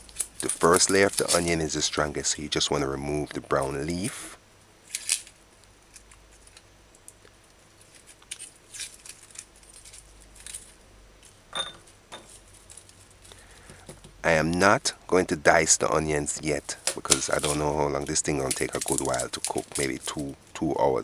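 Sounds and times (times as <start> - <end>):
onion skin crackling: 0.0 - 4.1, 4.8 - 11.5, 12.3 - 21.0
faint low hum: 0.0 - 21.0.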